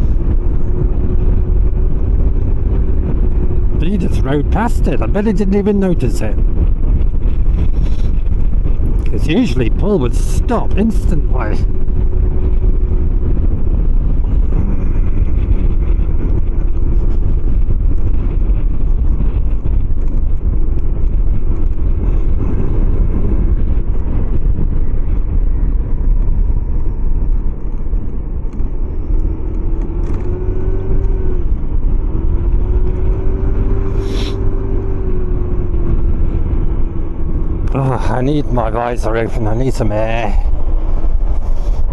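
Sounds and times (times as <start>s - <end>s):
low wind rumble: 0.0s - 41.9s.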